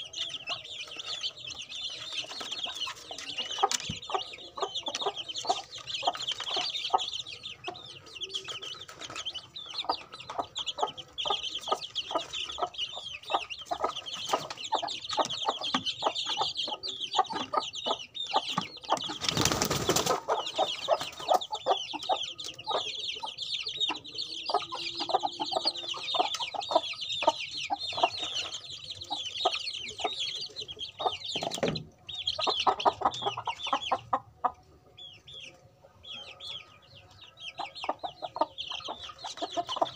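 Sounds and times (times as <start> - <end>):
chicks peeping: 0.0 - 39.9
beaks pecking at soil: 0.1 - 34.3.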